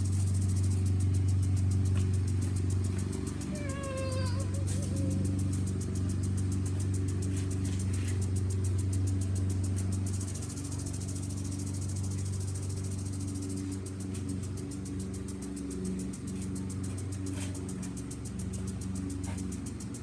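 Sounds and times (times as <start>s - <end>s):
lawn mower engine running: 0.0s - 20.0s
sprinkler ticking hiss: 0.0s - 20.0s.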